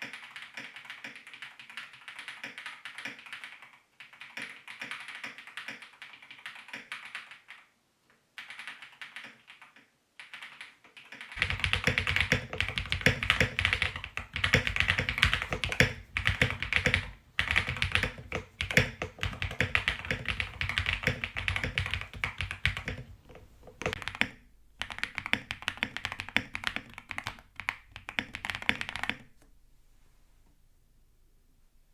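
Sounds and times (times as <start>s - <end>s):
mechanical keyboard typing: 0.0s - 7.7s, 8.4s - 29.3s.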